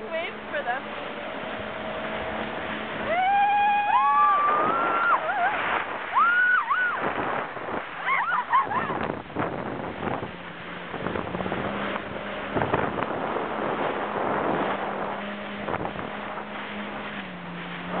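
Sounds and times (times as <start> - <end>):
jet ski engine running: 0.0 - 18.0
wind buffeting microphone: 0.0 - 18.0.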